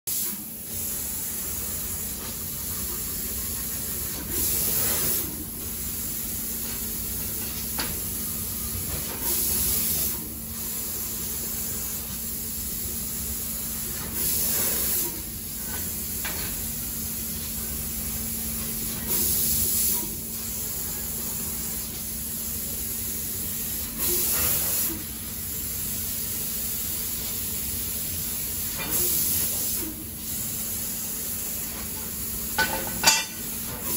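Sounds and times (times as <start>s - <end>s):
laser cutter hissing: 0.1s - 33.9s.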